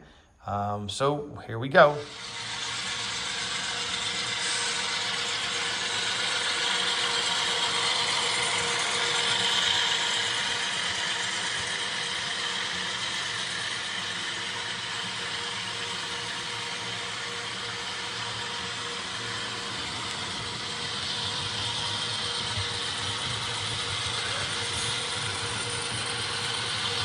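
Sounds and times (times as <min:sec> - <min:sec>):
model train motor whirring: 0:01.8 - 0:27.0
wheels rattling on rails: 0:02.2 - 0:27.0.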